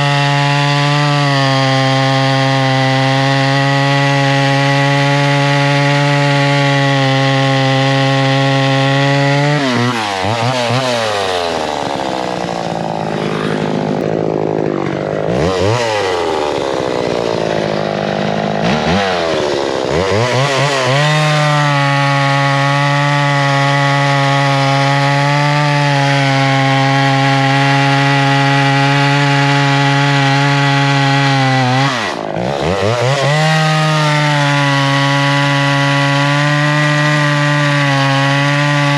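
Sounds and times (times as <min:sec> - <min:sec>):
chainsaw running at high speed: 0:00.0 - 0:38.9.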